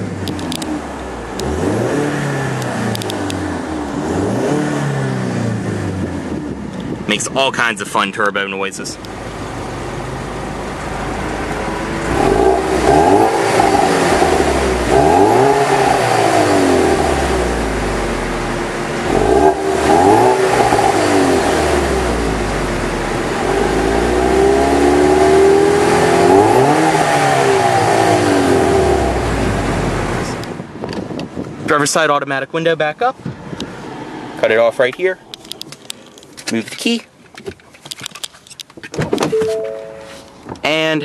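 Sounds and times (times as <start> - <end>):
car engine idling and revving: 0.0 - 8.1, 8.7 - 31.6, 33.2 - 38.8.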